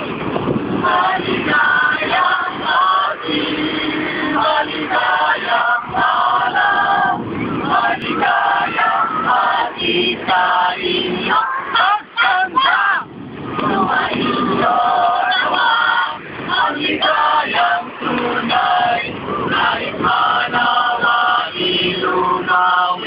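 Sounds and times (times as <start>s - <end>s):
group of men and women singing: 0.0s - 23.0s.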